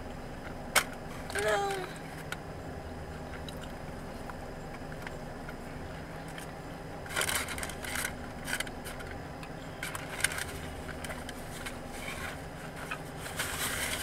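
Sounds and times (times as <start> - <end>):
low car interior hum: 0.0 - 14.0.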